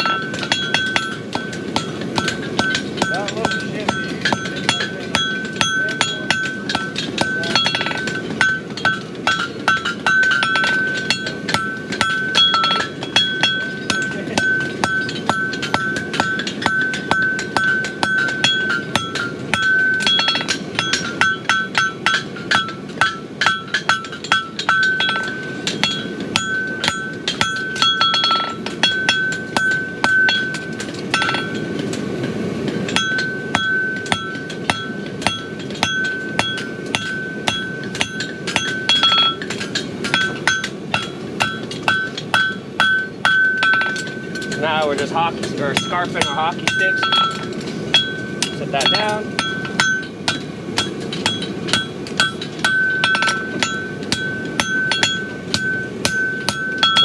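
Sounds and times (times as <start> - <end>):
hammer striking anvil: 0.0 - 32.1, 32.7 - 57.0.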